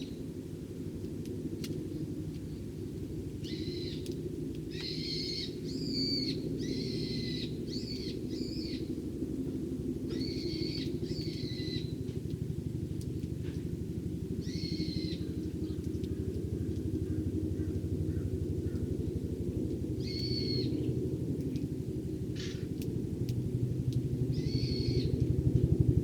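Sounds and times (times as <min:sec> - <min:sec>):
low hum: 0:01.2 - 0:26.0.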